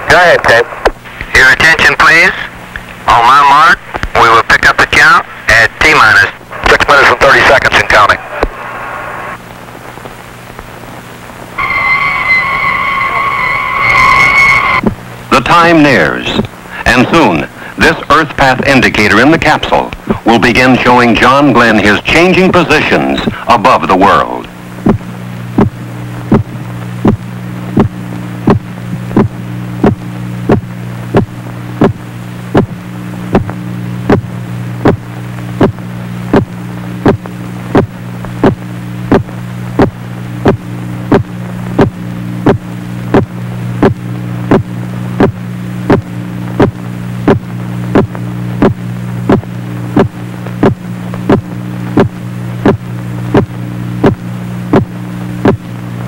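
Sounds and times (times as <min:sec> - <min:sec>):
low electronic hum: 0:00.0 - 0:56.0.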